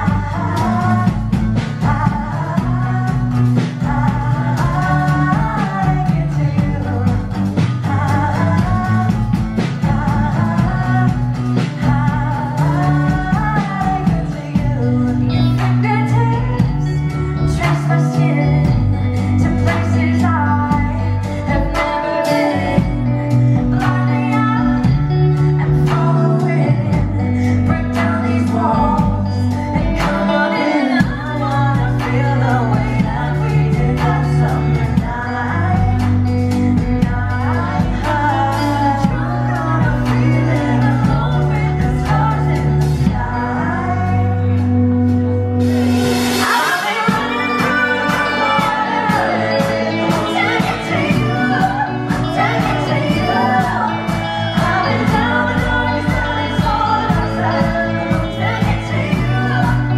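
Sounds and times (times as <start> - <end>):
small band with electric guitar: 0.0 - 59.9
woman singing a pop ballad: 0.0 - 59.9.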